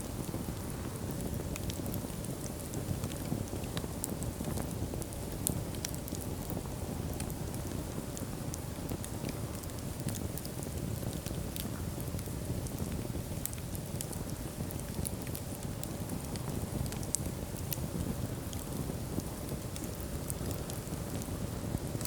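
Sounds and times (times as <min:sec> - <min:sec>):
fire crackling and popping: 0:00.0 - 0:22.0
fire flames rumbling: 0:00.0 - 0:22.0.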